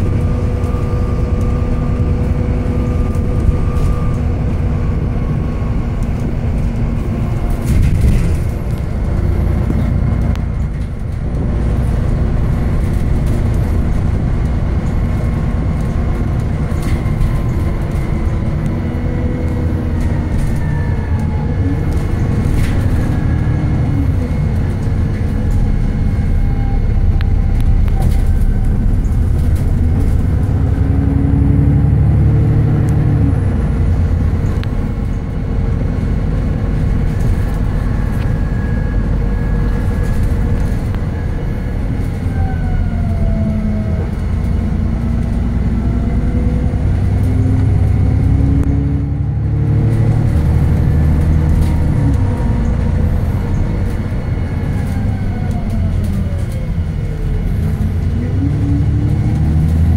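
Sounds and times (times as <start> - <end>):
bus engine rumble: 0.0 - 59.9
drivetrain whine: 0.0 - 59.9.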